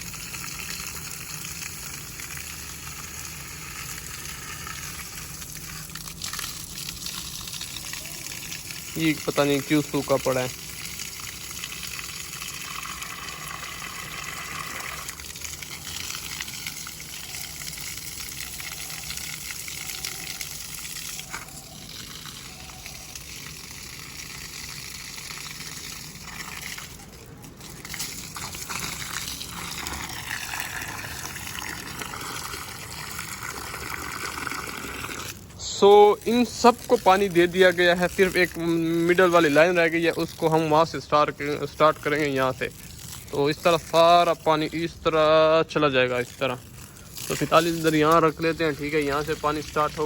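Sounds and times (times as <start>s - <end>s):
water gushing from a hose: 0.0s - 50.0s.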